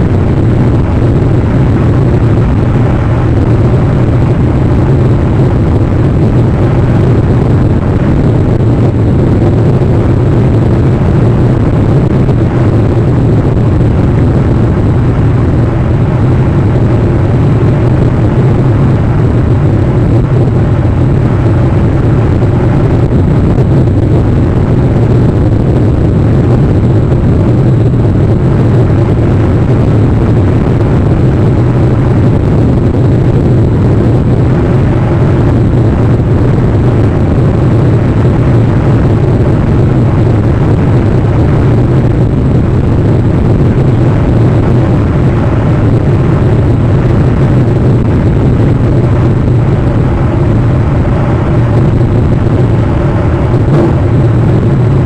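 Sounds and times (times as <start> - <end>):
loud low rumble with hiss: 0.0 - 55.0.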